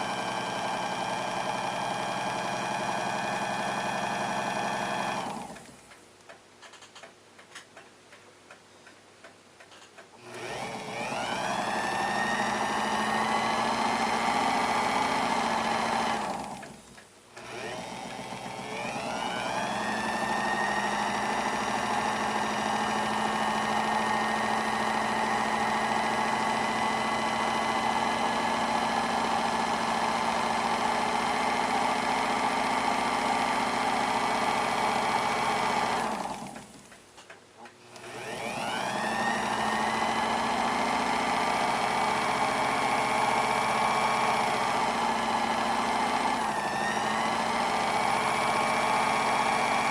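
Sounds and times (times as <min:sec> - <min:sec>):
small electric motor whining: 0:00.0 - 0:05.8, 0:10.2 - 0:36.9, 0:37.9 - 0:49.9.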